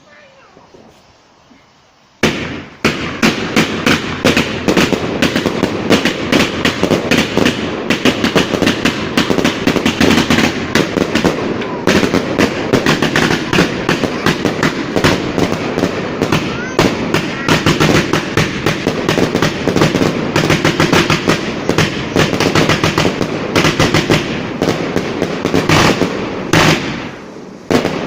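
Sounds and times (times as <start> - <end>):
fireworks cracking and banging: 0.0 - 1.6, 2.2 - 28.0.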